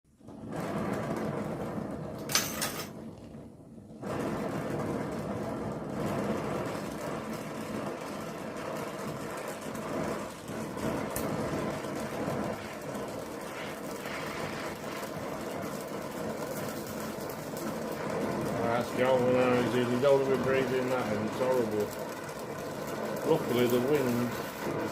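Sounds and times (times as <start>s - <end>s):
welding noise: 0.1s - 24.9s.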